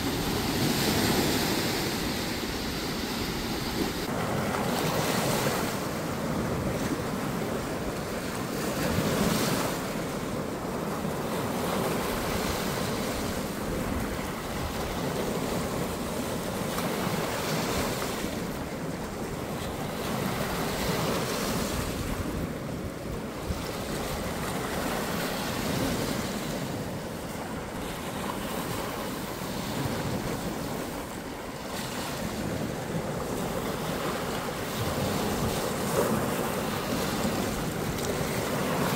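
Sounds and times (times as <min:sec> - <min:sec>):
small waves washing on shore: 0:00.0 - 0:38.9
wind buffeting microphone: 0:00.0 - 0:38.9.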